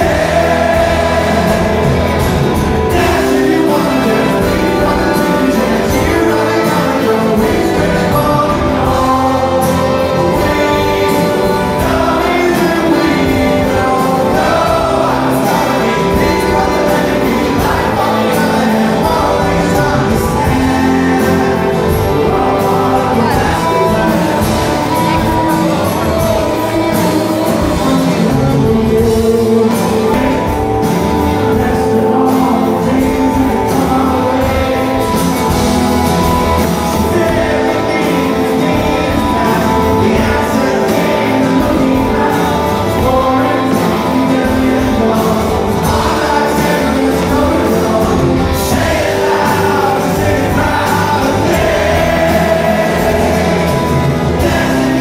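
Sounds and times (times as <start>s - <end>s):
band accompaniment: 0.0s - 55.0s
man singing: 0.0s - 55.0s
strummed acoustic guitar: 0.0s - 55.0s.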